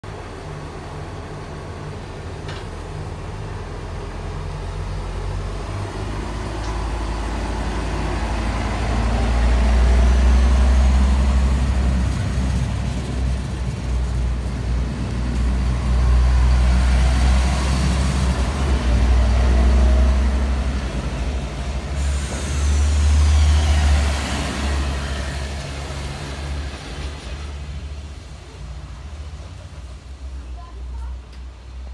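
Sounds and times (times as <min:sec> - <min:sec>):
diesel train engine rumble: 0:00.0 - 0:31.9.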